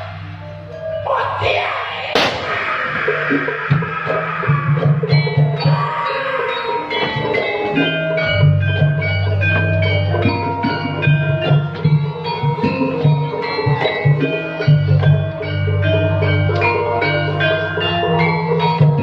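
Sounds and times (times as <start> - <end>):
metallophones ringing: 0.0 - 19.0.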